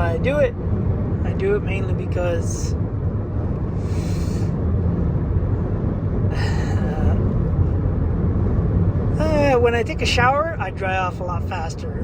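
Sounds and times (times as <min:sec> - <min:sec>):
road and wind rumble in car: 0:00.0 - 0:12.0.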